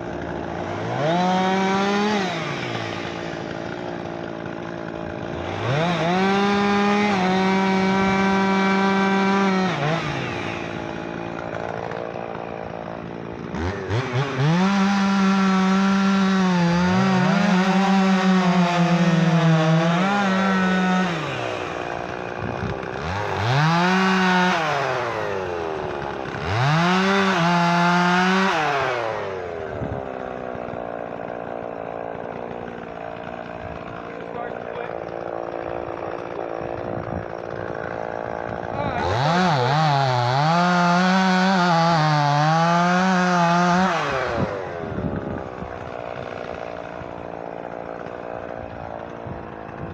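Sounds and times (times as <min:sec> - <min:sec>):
chainsaw revving and idling: 0:00.0 - 0:49.9.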